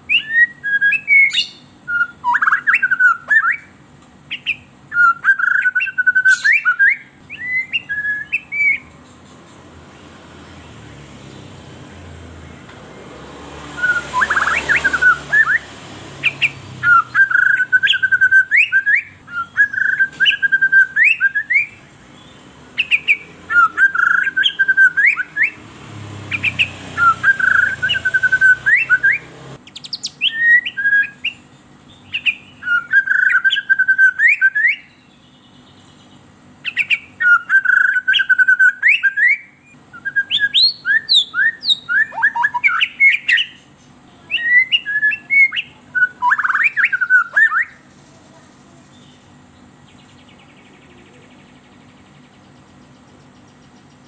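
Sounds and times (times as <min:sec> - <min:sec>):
songbird whistling song: 0:00.0 - 0:11.4, 0:12.0 - 0:54.0.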